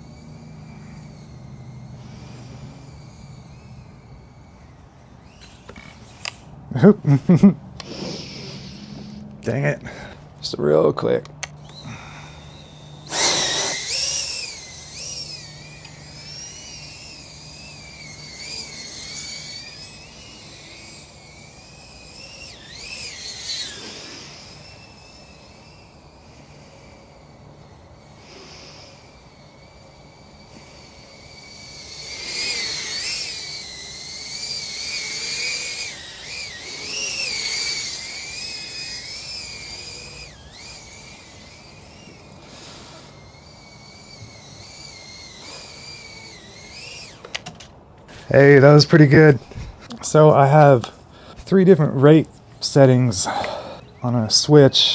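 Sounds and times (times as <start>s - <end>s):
drone motors whining: 0.0s - 54.9s.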